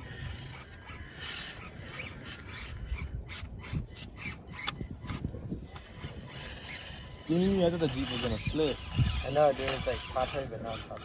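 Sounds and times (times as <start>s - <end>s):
rc trucks scraping on rocks: 0.0s - 11.0s.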